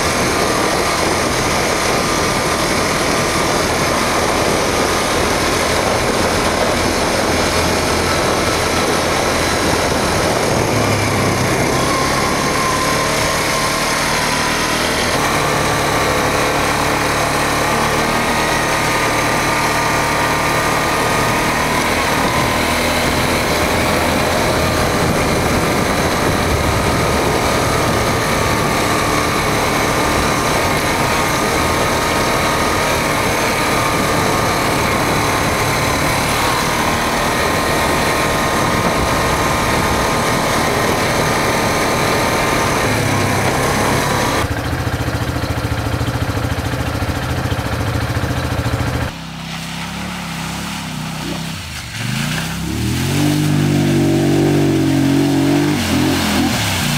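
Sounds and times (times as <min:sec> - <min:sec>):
atv engine running: 0:00.0 - 0:56.9
engine revving: 0:00.0 - 0:56.9.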